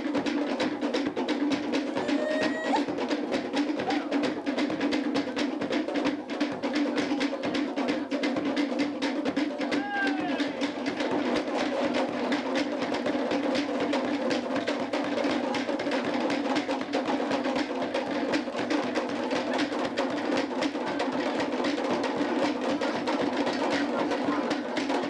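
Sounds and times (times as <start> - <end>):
fast drum ensemble rhythm: 0.0 - 25.0.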